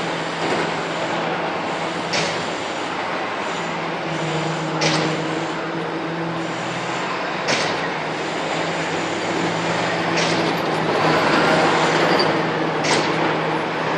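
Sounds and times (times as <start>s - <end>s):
constant rushing noise: 0.0s - 13.9s.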